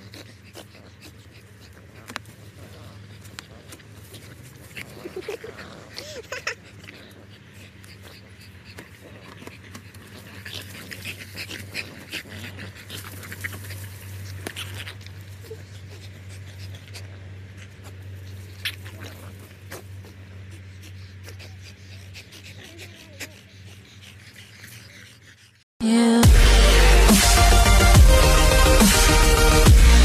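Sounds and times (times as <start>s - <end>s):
dogs breathing: 0.0s - 25.7s.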